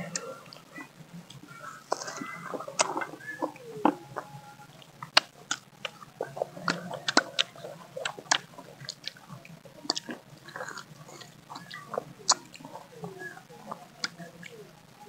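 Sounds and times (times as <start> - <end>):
people biting and chewing mango: 0.0 - 14.7
wet mouth sounds: 0.1 - 14.7.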